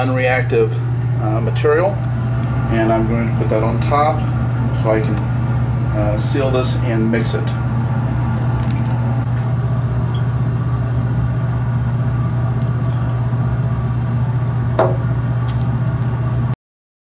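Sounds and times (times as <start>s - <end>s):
exhaust fan humming: 0.0s - 16.6s.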